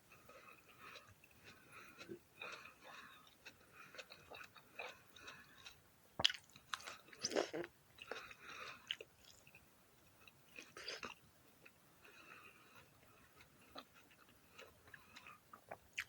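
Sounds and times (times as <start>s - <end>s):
wet crunching chews: 0.1s - 9.6s, 10.2s - 16.0s.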